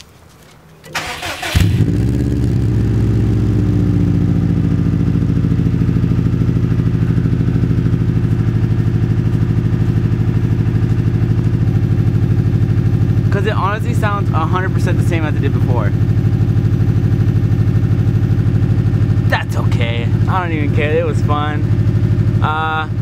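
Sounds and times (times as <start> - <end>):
car engine starting and idling: 0.0 - 23.0.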